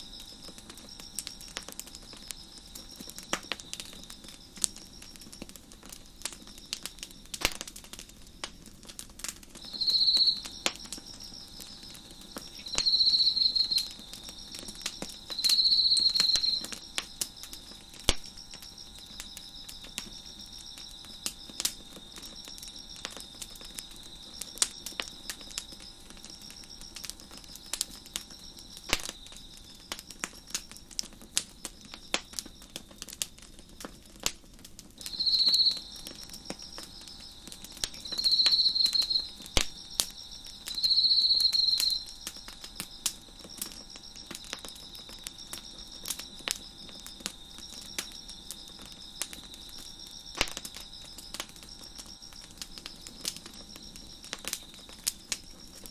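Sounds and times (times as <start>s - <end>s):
crickets chirping: 0.0s - 55.9s
wood fire crackling: 0.0s - 55.9s.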